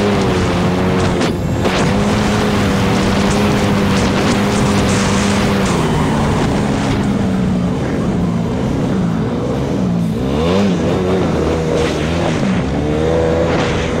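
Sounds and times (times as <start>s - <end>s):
quad bike engine revving: 0.0s - 14.0s
riding noise rush: 0.0s - 14.0s.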